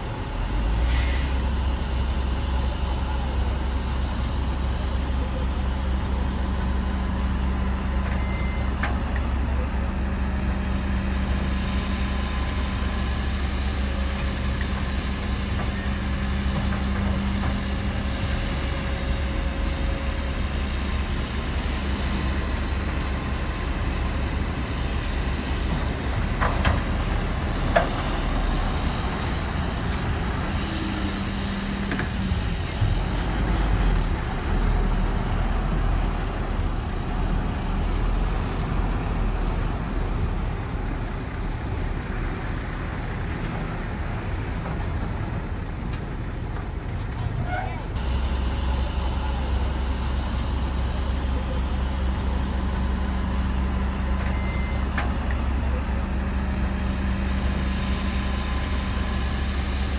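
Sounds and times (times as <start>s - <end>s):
diesel machinery rumbling: 0.0s - 59.9s.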